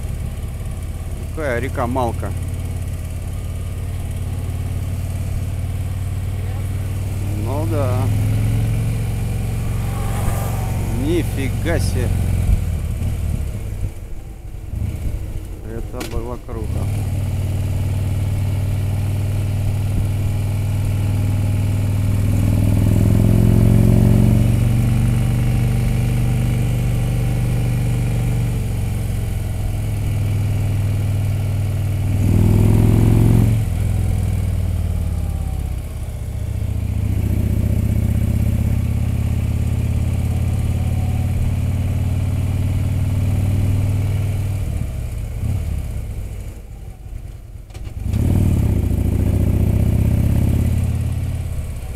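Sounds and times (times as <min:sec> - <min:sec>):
motorcycle engine running: 0:00.0 - 0:15.7, 0:16.6 - 0:51.9.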